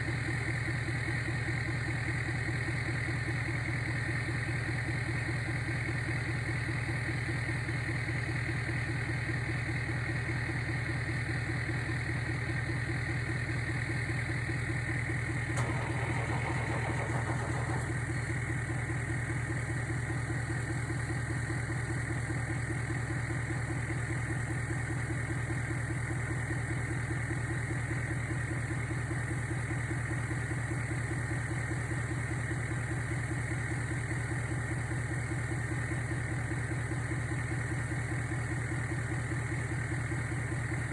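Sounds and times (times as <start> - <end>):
vehicle engine droning: 0.0 - 40.9.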